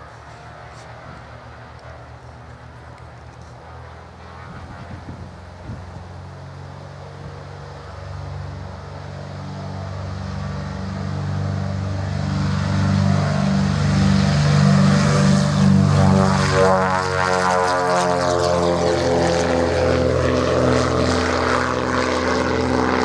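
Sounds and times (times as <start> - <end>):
twin propeller engines at full power: 0.0 - 23.0.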